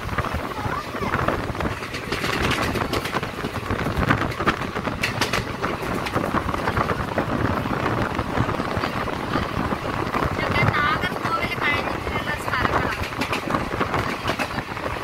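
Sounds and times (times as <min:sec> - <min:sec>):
train clicks and rattles: 0:00.0 - 0:15.0
train rumbling: 0:00.0 - 0:15.0.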